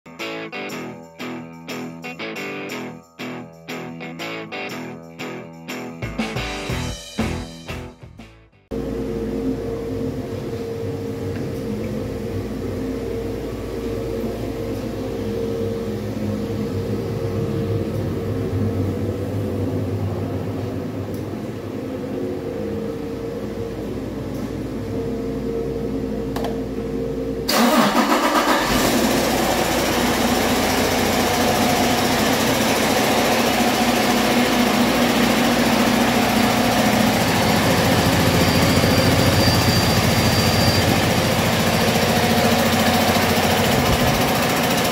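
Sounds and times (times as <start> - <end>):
diesel engine running: 8.7 - 44.9.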